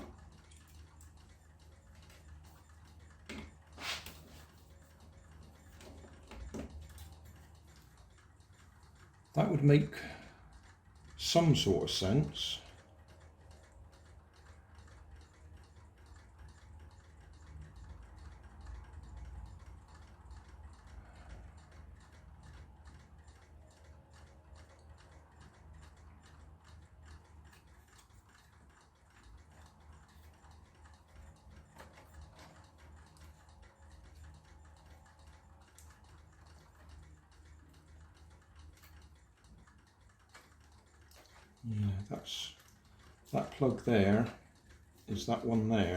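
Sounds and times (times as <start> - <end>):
faint regular ticking: 0.0 - 45.9
low steady hum: 0.0 - 45.9.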